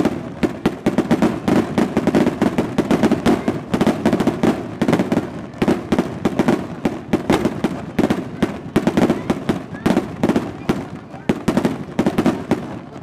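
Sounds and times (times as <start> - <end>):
firecracker bangs: 0.0 - 13.0.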